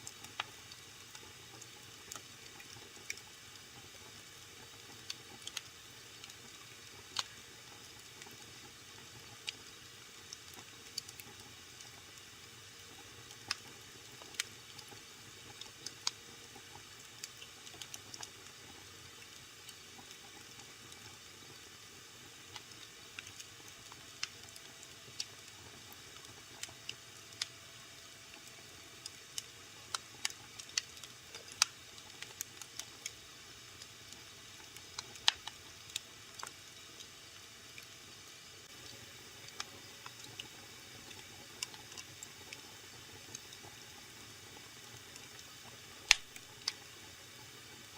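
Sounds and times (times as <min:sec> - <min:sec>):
wood fire crackling: 0:00.0 - 0:04.2, 0:04.8 - 0:08.6, 0:12.8 - 0:27.5, 0:28.4 - 0:37.1, 0:38.6 - 0:46.9.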